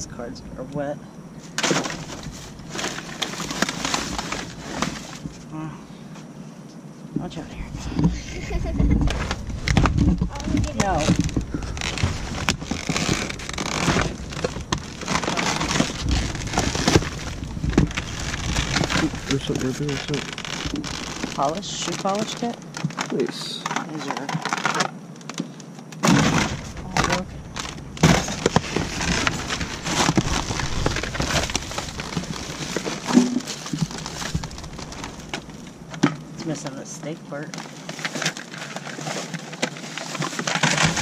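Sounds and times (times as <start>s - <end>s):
trash rustling and crinkling: 0.8s - 6.3s, 7.2s - 41.0s.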